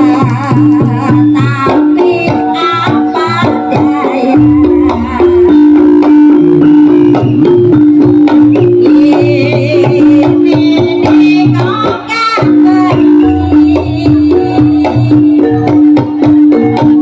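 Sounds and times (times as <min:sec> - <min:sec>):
fast drumming: 0:00.0 - 0:17.0
melodic line: 0:02.4 - 0:11.6, 0:12.5 - 0:17.0.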